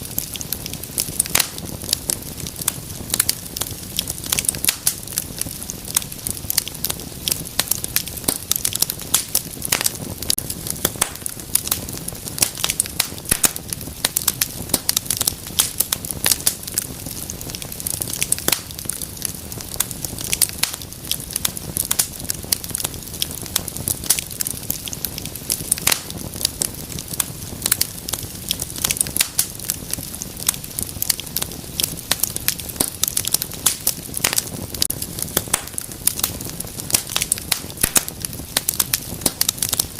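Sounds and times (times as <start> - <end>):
low rushing of flame: 0.0 - 39.9
wood fire crackling and popping: 0.0 - 39.9.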